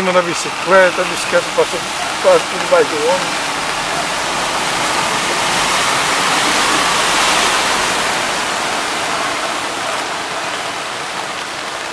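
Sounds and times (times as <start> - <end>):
vehicle splashing through floodwater: 0.0 - 11.9.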